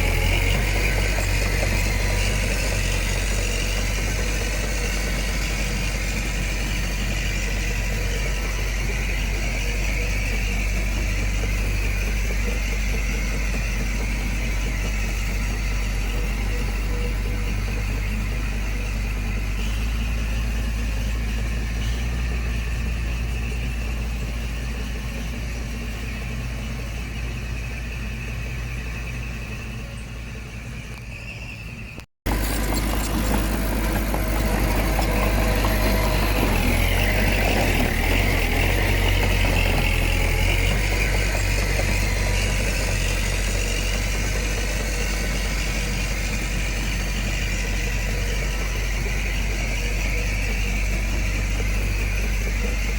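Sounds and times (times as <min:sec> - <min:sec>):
earthmoving machine diesel engine: 0:00.0 - 0:52.9.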